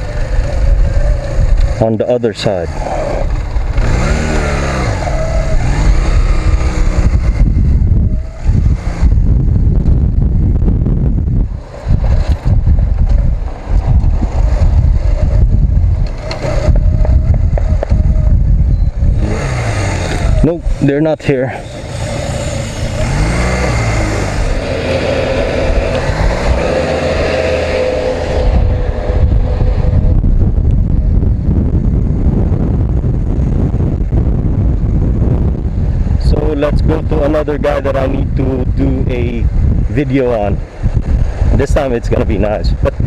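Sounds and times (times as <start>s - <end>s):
motorcycle engine hum: 0.0s - 43.0s
wind buffeting microphone: 0.0s - 43.0s.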